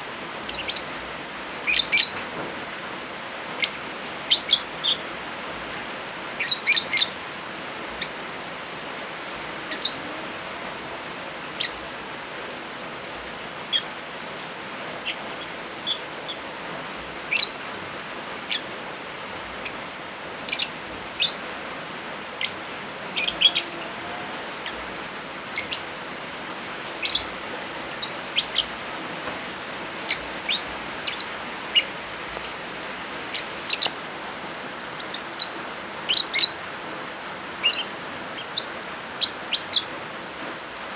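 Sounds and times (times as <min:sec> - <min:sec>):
rain hissing: 0:00.0 - 0:40.9
lovebirds chirping: 0:00.1 - 0:02.3, 0:03.4 - 0:12.0, 0:13.5 - 0:14.0, 0:14.8 - 0:40.0.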